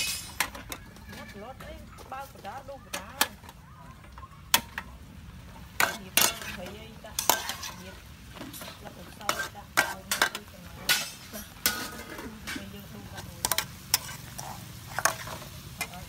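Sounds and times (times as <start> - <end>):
spatula scraping metal wok: 0.0 - 2.6, 5.4 - 16.0
food sizzling: 0.0 - 16.0.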